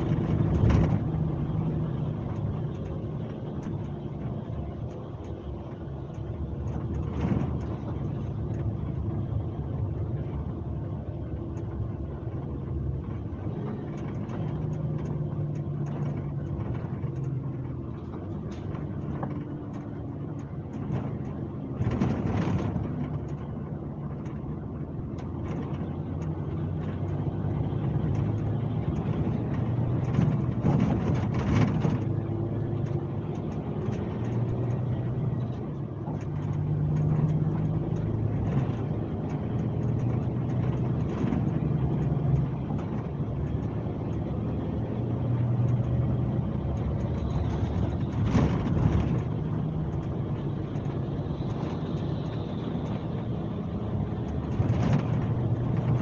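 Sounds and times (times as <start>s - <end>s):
diesel bus engine running: 0.0s - 56.0s
road noise: 0.0s - 56.0s.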